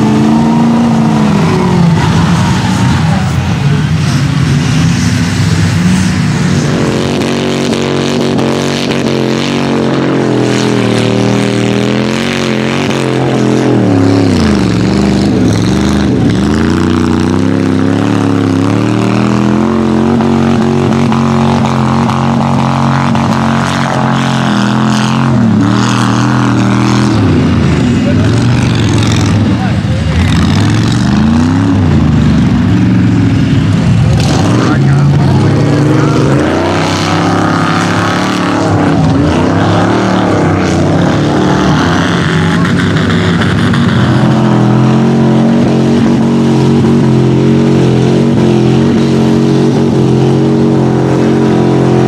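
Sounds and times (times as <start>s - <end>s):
tires spinning through mud: 0.0s - 52.0s
truck engines revving: 0.0s - 52.0s.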